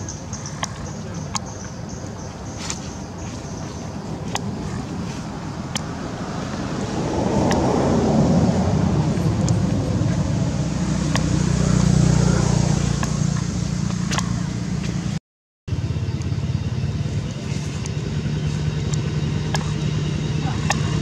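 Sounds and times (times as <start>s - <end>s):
low motor hum: 0.0s - 21.0s
outdoor noise: 0.0s - 21.0s.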